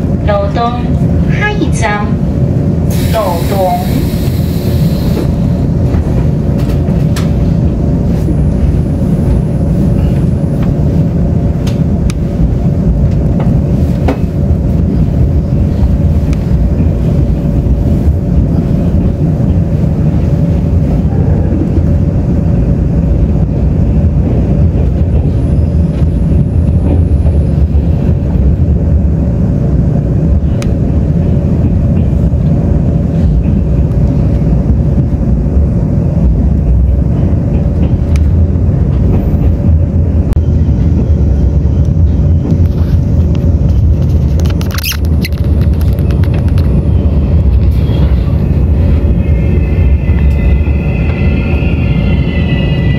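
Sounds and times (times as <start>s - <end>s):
constant hum: 0.0s - 52.9s
train wheels rumbling on rail: 0.0s - 52.9s.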